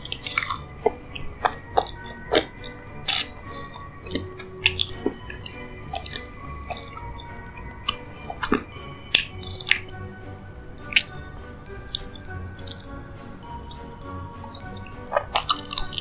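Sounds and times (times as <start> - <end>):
chewing with mouth smacks: 0.0 - 9.9, 10.8 - 13.1, 14.4 - 16.0
quiet background music: 0.0 - 16.0.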